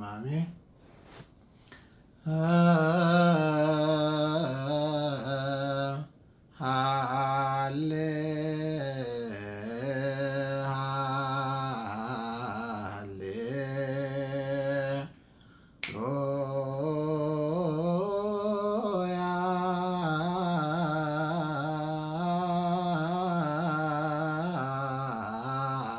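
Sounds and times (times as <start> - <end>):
man chanting: 0.0 - 0.6, 2.2 - 15.2, 15.8 - 25.9.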